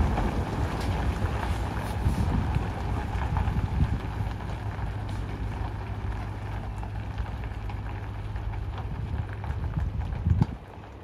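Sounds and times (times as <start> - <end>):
distant truck engine: 0.0 - 11.0
tyres rumbling: 0.0 - 11.0.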